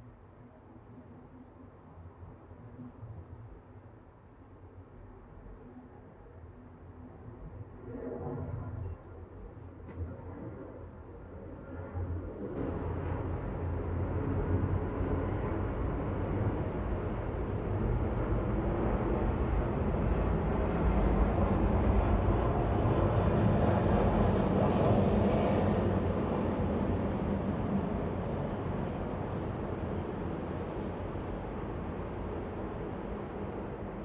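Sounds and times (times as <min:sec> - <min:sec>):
low rumbling city noise: 0:00.0 - 0:34.0.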